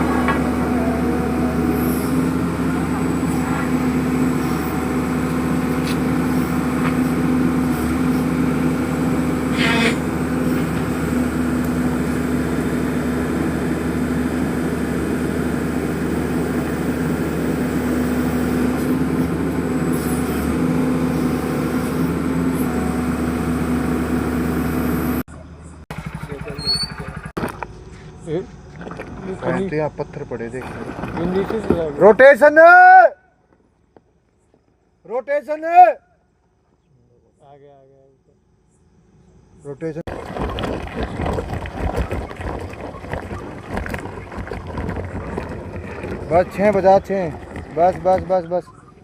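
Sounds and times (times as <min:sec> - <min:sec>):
drilling rig engine humming: 0:00.0 - 0:32.9, 0:38.7 - 0:49.0.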